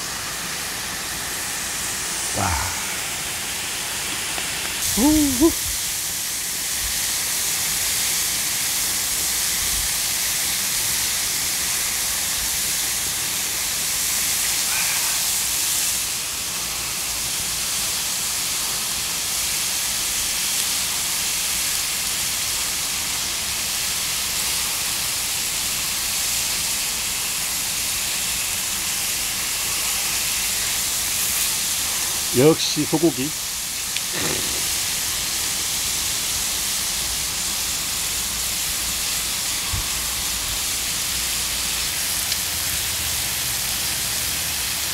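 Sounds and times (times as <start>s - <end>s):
meat sizzling on grill pan: 0.0s - 44.9s.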